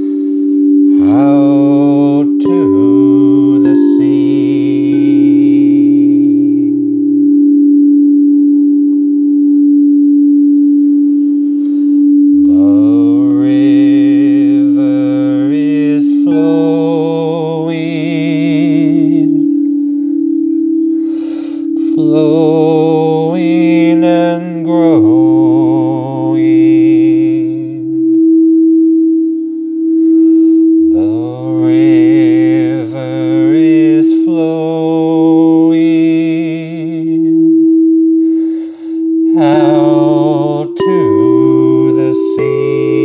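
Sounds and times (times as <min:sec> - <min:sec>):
person chanting vowel tones: 0:00.0 - 0:28.6, 0:29.4 - 0:43.0
singing bowl ringing: 0:00.0 - 0:43.0.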